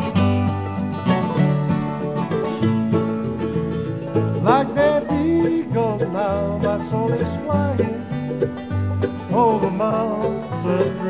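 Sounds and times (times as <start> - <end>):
bass line: 0.0 - 11.0
plucked acoustic strings: 0.0 - 11.0.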